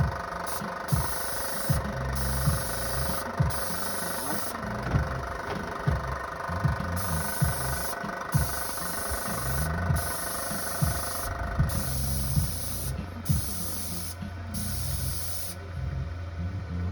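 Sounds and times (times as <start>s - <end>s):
paint spray gun hissing: 0.0s - 15.8s
motor humming: 0.0s - 16.9s.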